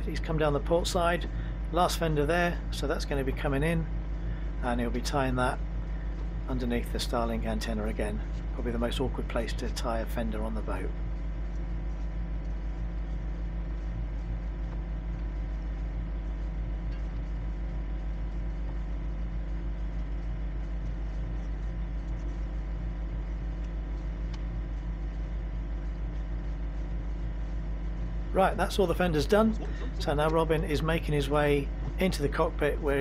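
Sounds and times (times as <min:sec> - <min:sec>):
boat diesel engine throbbing: 0:00.0 - 0:33.0.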